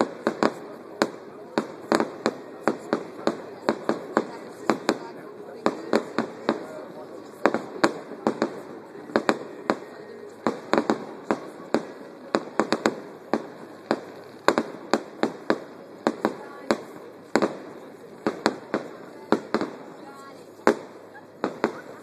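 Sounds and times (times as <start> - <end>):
background hiss: 0.0 - 22.0
fireworks bursting: 0.0 - 22.0.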